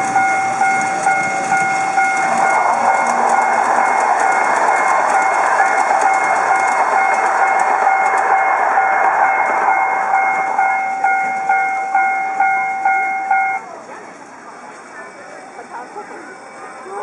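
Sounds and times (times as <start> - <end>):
level-crossing warning bell: 0.0 - 13.9
mini train clattering over rails: 0.0 - 17.0.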